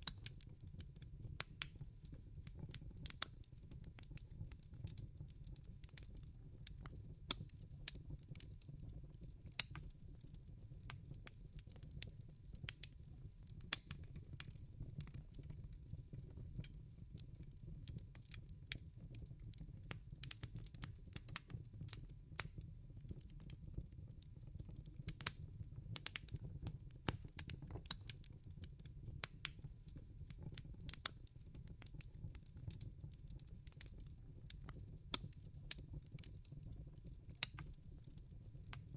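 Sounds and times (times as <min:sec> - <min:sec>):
low rumble of burning fire: 0:00.0 - 0:38.9
wood fire pops and snaps: 0:00.0 - 0:38.9.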